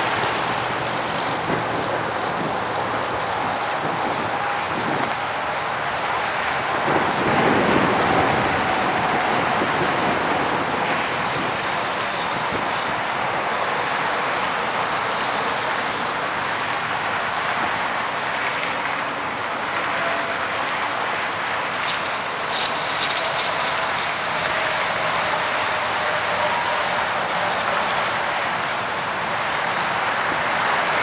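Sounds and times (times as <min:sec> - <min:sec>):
highway traffic rushing: 0:00.0 - 0:31.0
vehicles passing close: 0:00.0 - 0:31.0.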